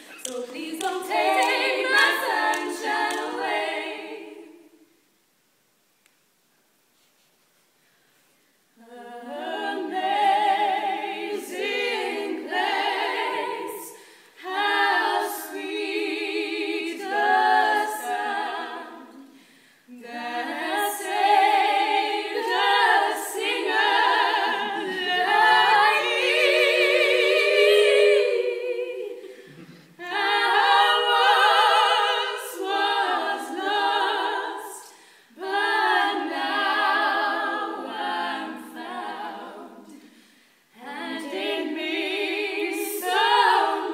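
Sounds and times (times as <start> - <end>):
female trio singing a cappella: 0.0 - 5.0, 8.7 - 43.9.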